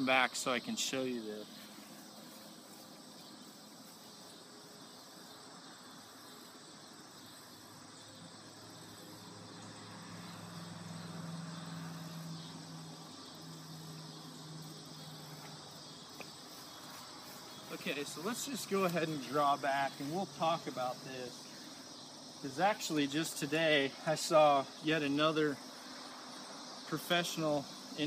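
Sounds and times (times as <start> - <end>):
insects chirping in grass: 0.0 - 28.0.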